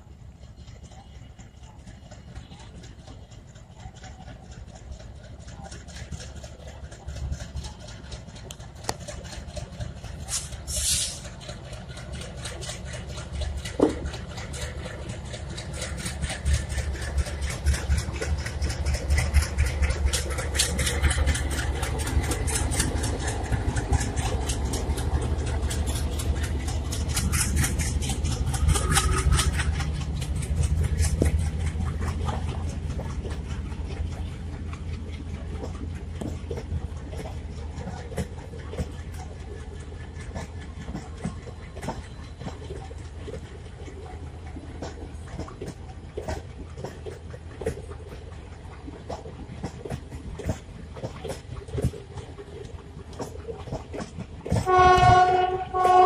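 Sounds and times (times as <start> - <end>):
locomotive engine rumble: 0.0 - 56.0
train wheels clattering on rails: 0.0 - 56.0.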